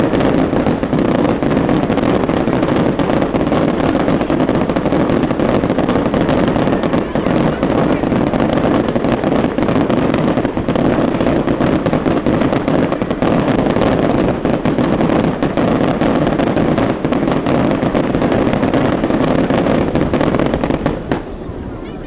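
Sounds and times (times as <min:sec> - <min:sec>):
fireworks popping and cracking: 0:00.0 - 0:22.0
steady fireworks rumble: 0:00.0 - 0:22.0.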